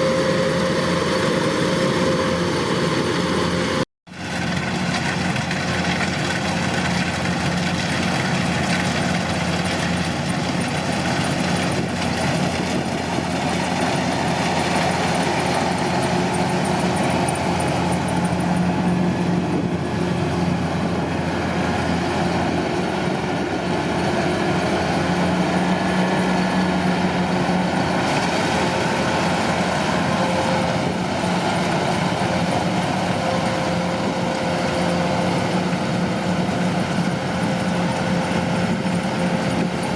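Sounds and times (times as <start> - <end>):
diesel engine droning: 0.0 - 39.9
machinery clatter: 1.2 - 39.9.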